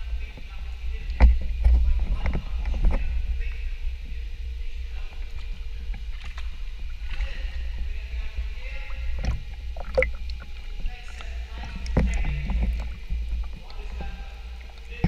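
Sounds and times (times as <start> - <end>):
faint water splashes: 0.0 - 15.0
muffled underwater rumble: 0.0 - 15.0.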